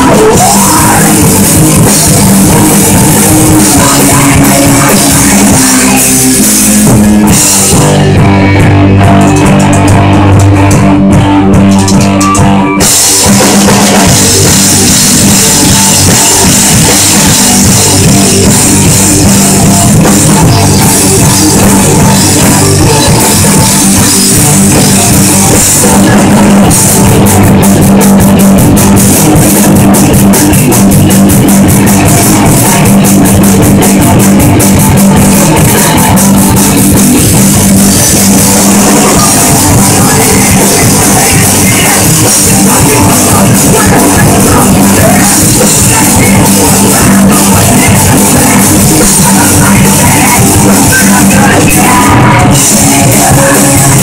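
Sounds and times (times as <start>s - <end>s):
distorted electric guitars: 0.0s - 54.0s
drum kit: 0.0s - 54.0s.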